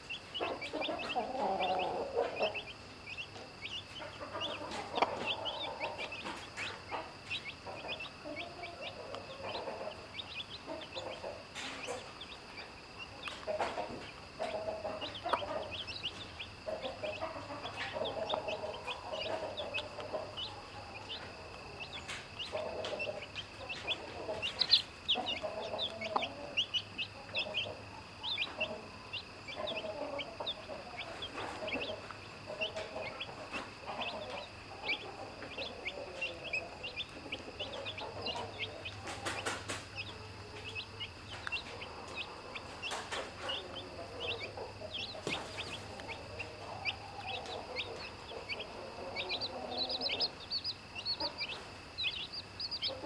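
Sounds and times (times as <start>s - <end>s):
chicks peeping: 0.0s - 53.0s
hen clucking: 0.0s - 53.0s.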